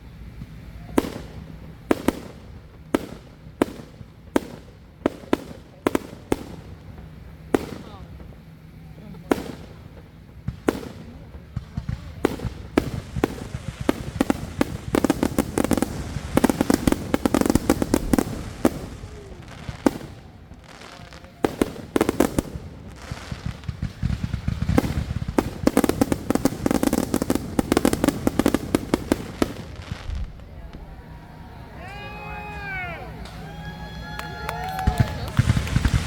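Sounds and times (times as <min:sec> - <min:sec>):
fireworks banging: 0:00.0 - 0:36.0.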